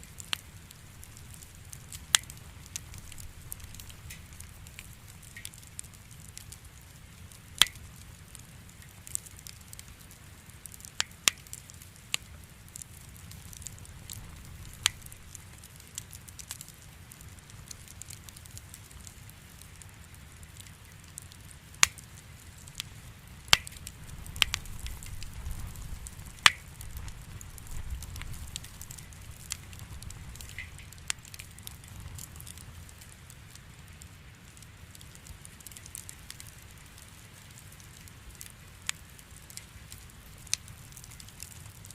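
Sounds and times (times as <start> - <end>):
campfire flame rumble: 0.0 - 41.9
firewood popping and crackling: 0.0 - 41.9.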